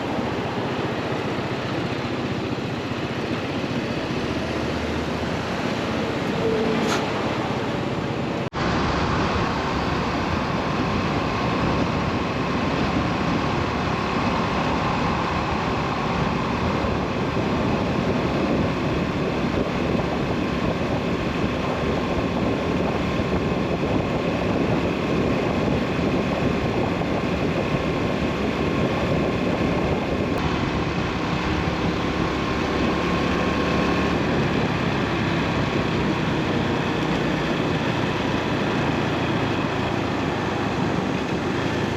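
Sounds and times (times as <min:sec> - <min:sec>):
motorcycle engine running: 0:00.0 - 0:06.3, 0:08.6 - 0:41.9
wind and road noise: 0:00.0 - 0:41.9.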